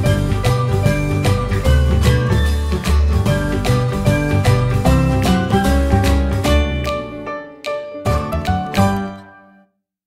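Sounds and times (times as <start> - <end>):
background music with beat: 0.0 - 9.5.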